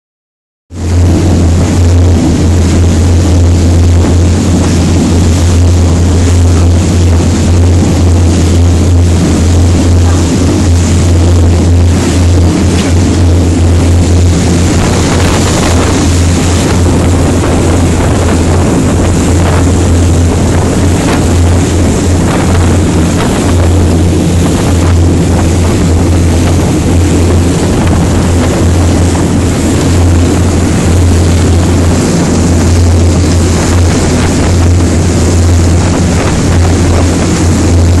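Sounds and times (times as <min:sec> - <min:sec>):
boat engine droning: 0:00.7 - 0:38.0
wake rushing: 0:00.7 - 0:38.0.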